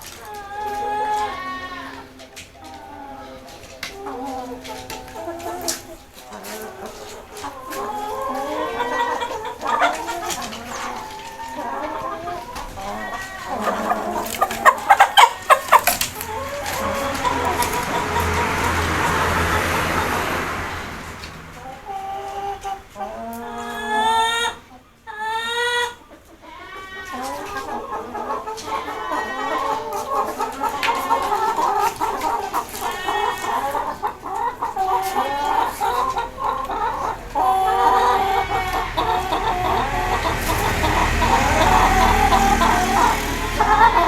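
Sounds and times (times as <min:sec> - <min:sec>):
chickens clucking: 0:00.0 - 0:44.0
loud chicken calls: 0:00.0 - 0:44.0.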